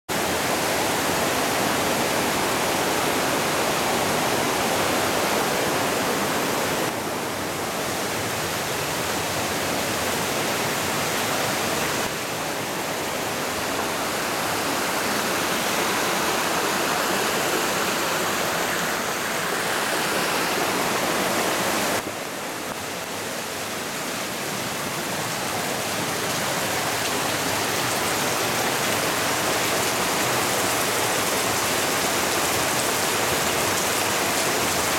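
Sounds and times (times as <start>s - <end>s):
rushing floodwater: 0.1s - 34.9s
torrential rain: 0.1s - 34.9s.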